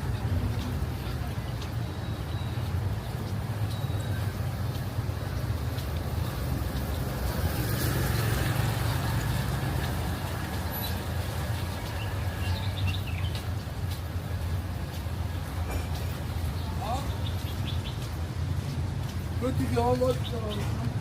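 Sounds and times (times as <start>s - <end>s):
low rumble of traffic: 0.0s - 21.0s.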